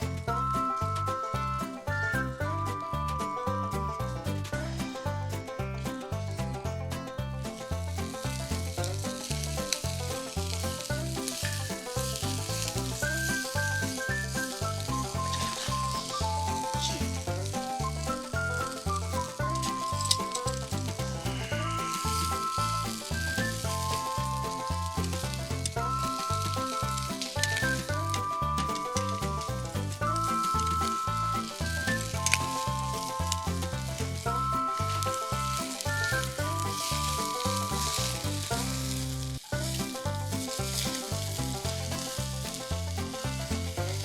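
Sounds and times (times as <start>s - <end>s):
meat sizzling on a grill: 7.5s - 44.0s.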